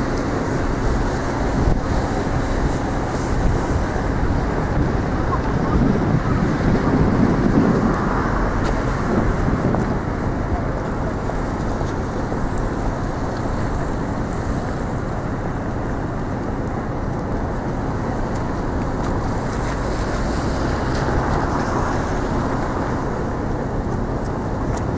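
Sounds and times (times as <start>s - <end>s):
traffic on wet road: 0.0s - 24.9s.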